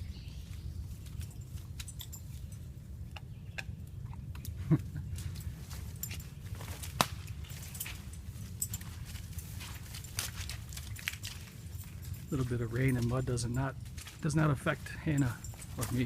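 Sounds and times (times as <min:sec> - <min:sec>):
footsteps on woodland trail: 0:00.0 - 0:02.7, 0:05.0 - 0:16.0
low steady rumble: 0:00.0 - 0:16.0.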